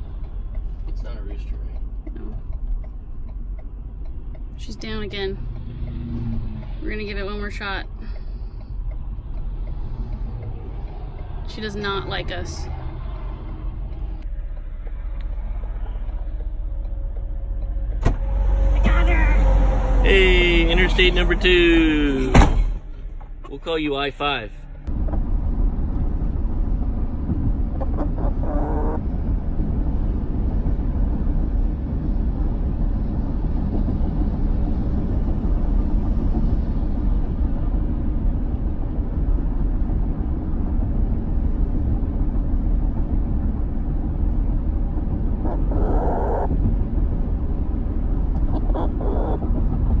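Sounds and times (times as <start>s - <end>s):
van road and engine rumble: 0.0s - 50.0s.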